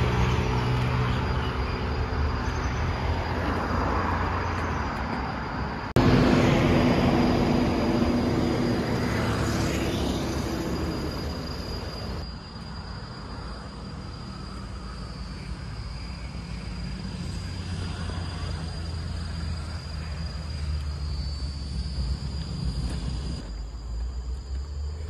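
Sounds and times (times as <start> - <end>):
high-pitched insect drone: 0.0 - 25.0
constant low rumble: 4.4 - 25.0.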